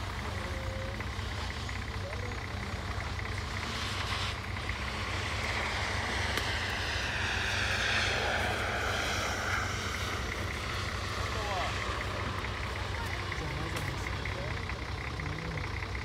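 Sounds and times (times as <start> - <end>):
distant engine revving: 0.0 - 16.0
steady low rumble: 0.0 - 16.0.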